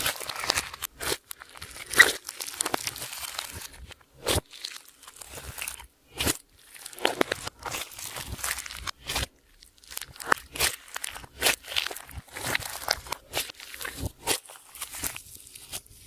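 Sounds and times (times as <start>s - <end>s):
slime crackling and popping: 0.0s - 16.0s.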